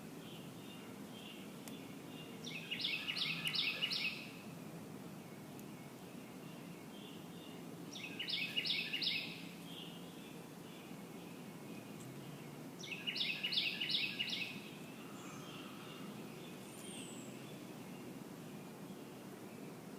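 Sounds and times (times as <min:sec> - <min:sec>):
outdoor background noise: 0:00.0 - 0:19.9
songbird singing: 0:00.0 - 0:19.9.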